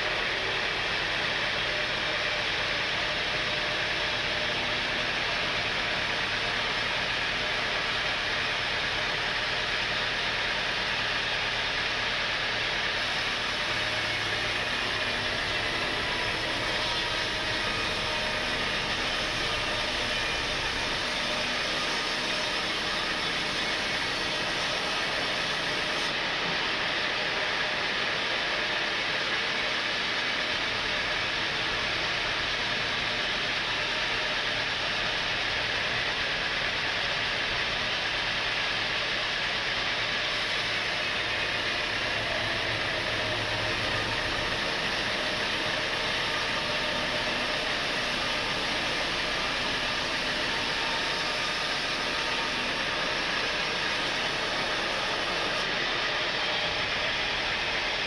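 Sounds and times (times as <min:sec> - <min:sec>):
sawmill saw hissing: 0:00.0 - 0:58.0.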